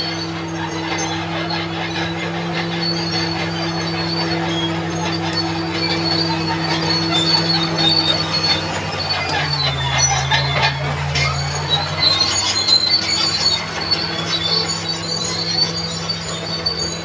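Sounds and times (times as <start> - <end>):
bulldozer diesel engine running: 0.0 - 17.0
steel tracks squealing and clanking: 0.0 - 17.0.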